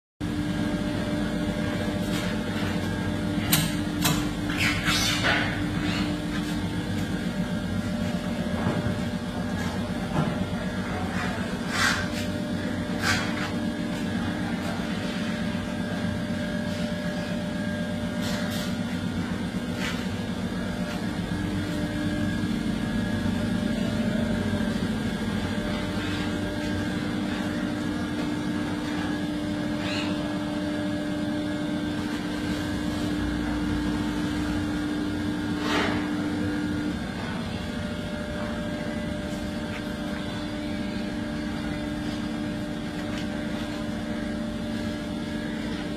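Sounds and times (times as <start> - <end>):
machine hum: 0.2 - 45.9.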